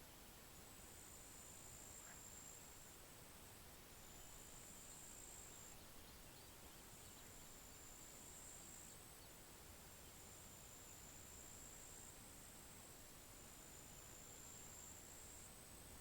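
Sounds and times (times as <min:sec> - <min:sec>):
soft background hiss: 0:00.0 - 0:16.0.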